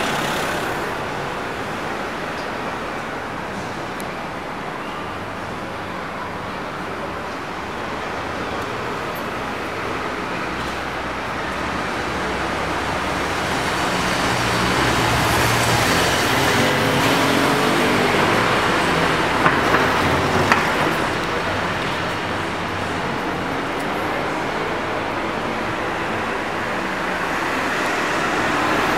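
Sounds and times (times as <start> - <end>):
road traffic noise: 0.0 - 28.9.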